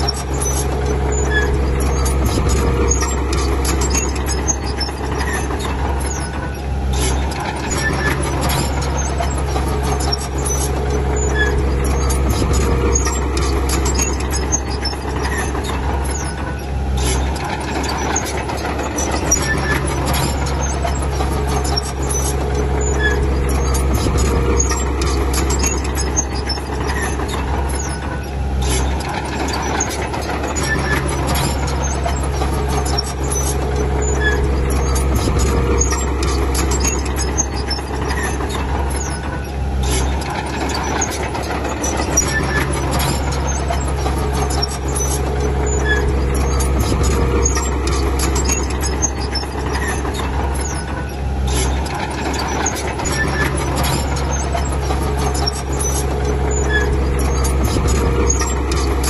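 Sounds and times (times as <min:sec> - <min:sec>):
bulldozer diesel engine under load: 0:00.0 - 0:59.0
steel tracks clicking and clanking: 0:00.0 - 0:59.0.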